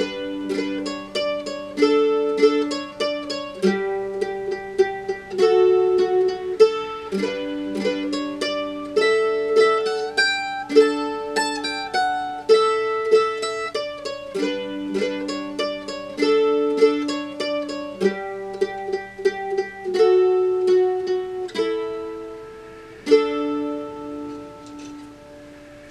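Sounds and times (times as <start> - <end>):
plucked string waltz tune: 0.0 - 25.9.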